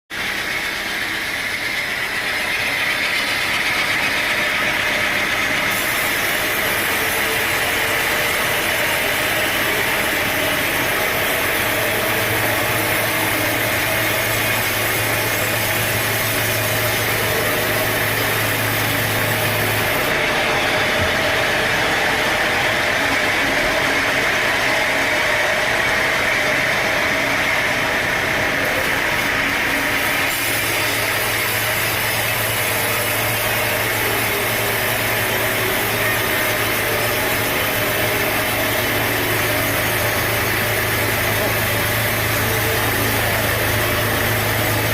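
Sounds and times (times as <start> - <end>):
sawmill machinery running: 0.1 - 44.9.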